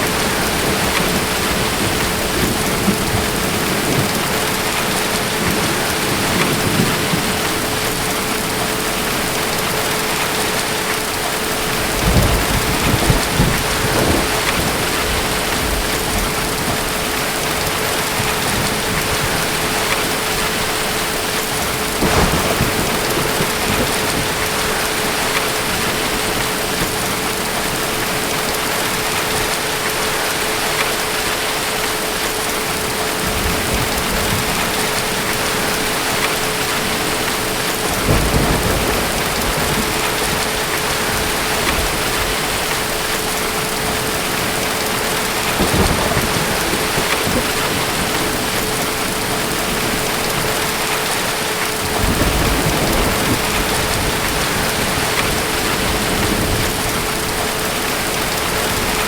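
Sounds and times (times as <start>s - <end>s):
distant thunder rumbling: 0.0s - 29.6s, 32.8s - 59.0s
heavy rain falling: 0.0s - 59.0s.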